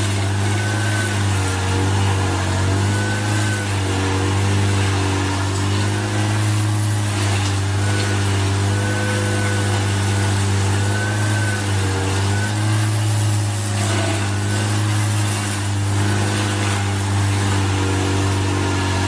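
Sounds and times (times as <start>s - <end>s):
heavy machine engine humming: 0.0s - 19.0s.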